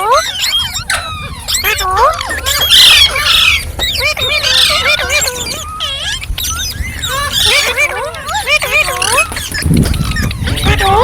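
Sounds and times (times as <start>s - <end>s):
parrots chirping and squawking: 0.0s - 11.0s.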